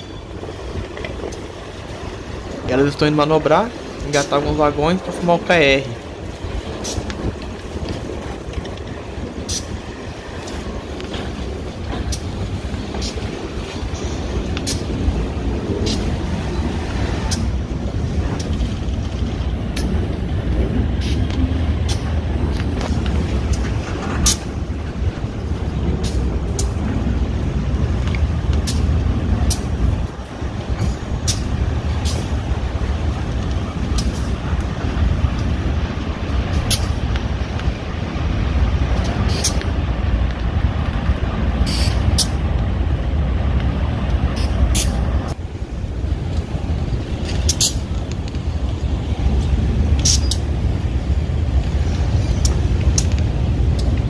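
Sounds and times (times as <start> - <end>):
locomotive engines rumbling: 0.0 - 54.0
wheels clicking on track: 0.0 - 54.0.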